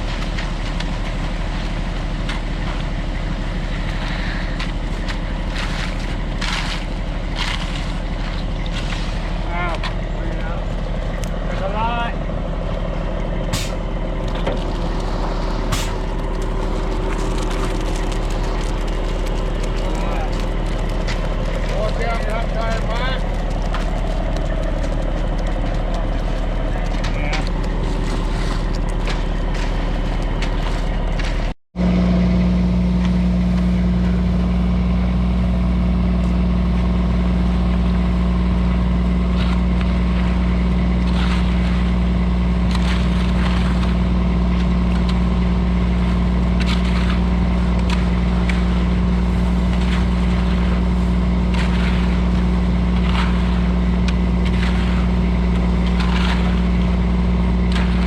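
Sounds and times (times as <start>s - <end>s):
large engine running steadily: 0.0s - 58.0s.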